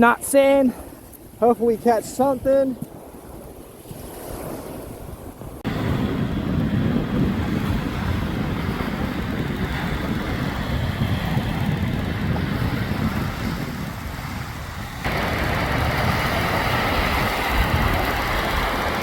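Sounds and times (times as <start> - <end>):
surf: 0.0 - 19.0
wind rumbling on microphone: 0.0 - 19.0.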